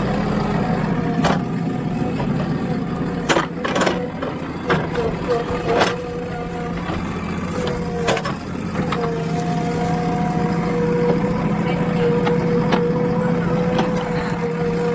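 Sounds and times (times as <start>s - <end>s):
diesel engine running under load: 0.0s - 14.9s.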